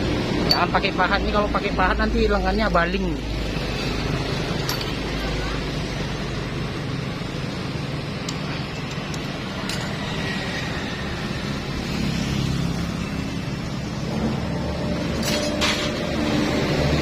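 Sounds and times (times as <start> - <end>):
engine and road traffic noise: 0.0 - 17.0.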